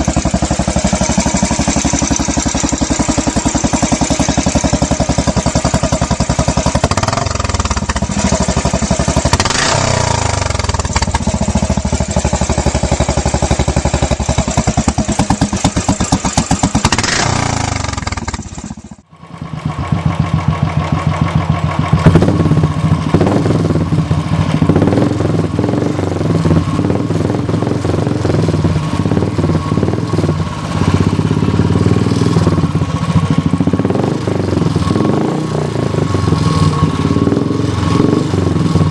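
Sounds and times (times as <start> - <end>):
motorcycle engine revving: 0.0 - 38.9
motorcycle idling: 0.0 - 38.9.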